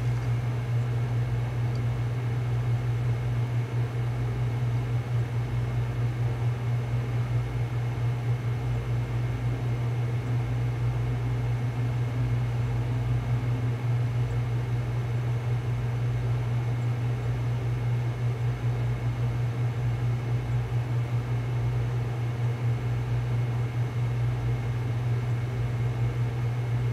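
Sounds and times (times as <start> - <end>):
low machine hum: 0.0 - 26.9.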